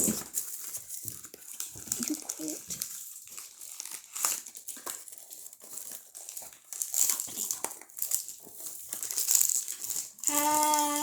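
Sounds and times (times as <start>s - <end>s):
toy packaging crinkling: 0.0s - 11.0s.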